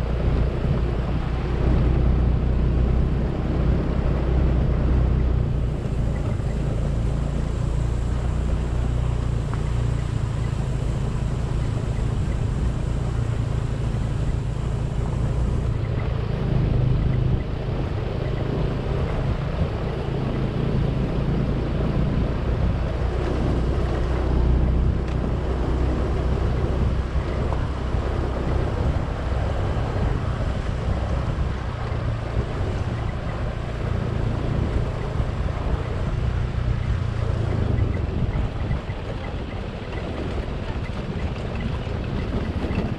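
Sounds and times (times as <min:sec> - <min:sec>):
motorcycle engine drone: 0:00.0 - 0:42.9
wind buffeting microphone: 0:00.0 - 0:42.9.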